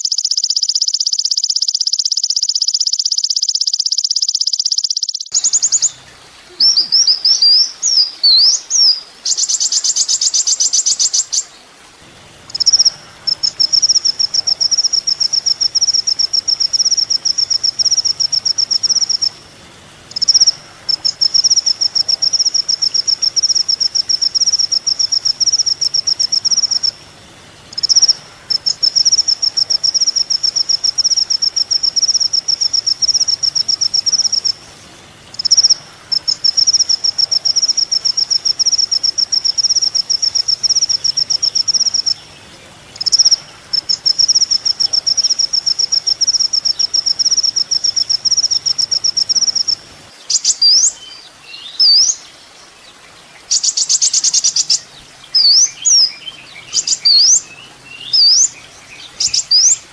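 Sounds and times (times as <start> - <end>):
sunbird singing: 0.0 - 59.9.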